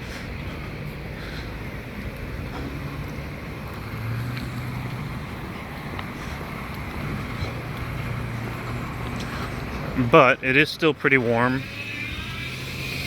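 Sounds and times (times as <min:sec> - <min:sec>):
low engine hum: 0:00.0 - 0:13.0
outdoor noise: 0:00.0 - 0:13.0.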